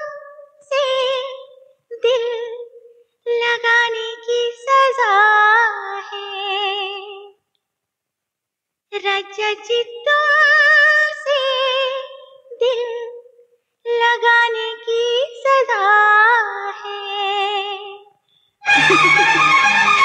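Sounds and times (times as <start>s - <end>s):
woman singing wordless phrases: 0.0s - 7.4s, 8.9s - 18.1s.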